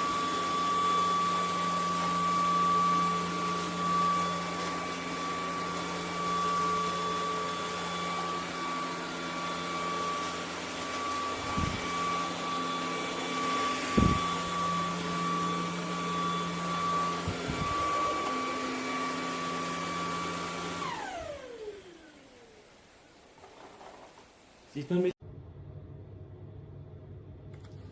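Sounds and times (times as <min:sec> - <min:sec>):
vacuum cleaner whine: 0:00.0 - 0:25.1.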